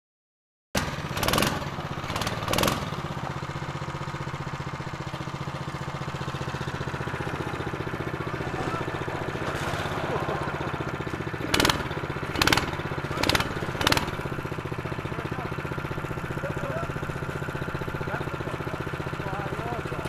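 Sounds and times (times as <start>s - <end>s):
small engine idling: 0.8s - 20.0s.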